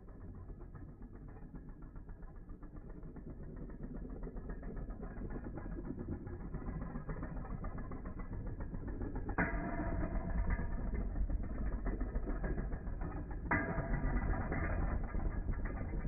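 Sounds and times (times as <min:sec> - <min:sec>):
spinning tops grinding rattle: 0:03.1 - 0:16.0.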